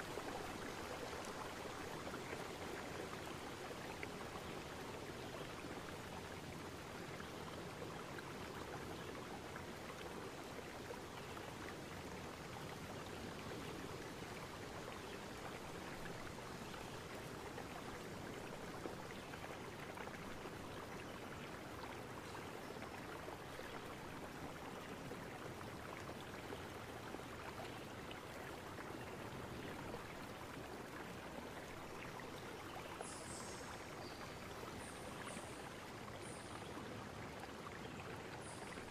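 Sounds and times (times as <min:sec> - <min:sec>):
faint steady hiss: 0:00.0 - 0:38.9.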